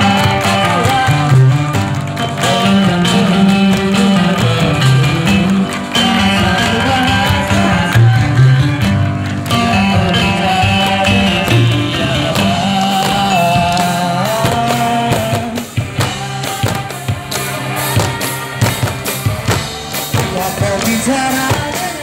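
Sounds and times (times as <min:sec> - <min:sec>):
band with guitar and bass: 0:00.0 - 0:22.0
sticks drumming on buckets: 0:00.0 - 0:22.0
choir singing held notes: 0:02.6 - 0:22.0.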